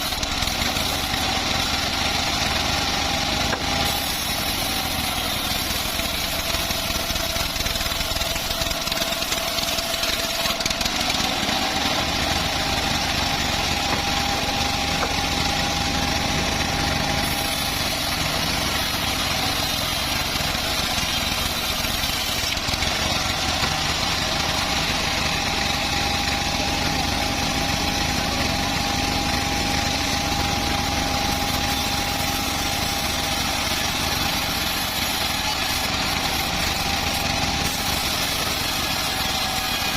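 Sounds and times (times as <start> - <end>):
bandsaw sawmill droning: 0.0 - 39.9.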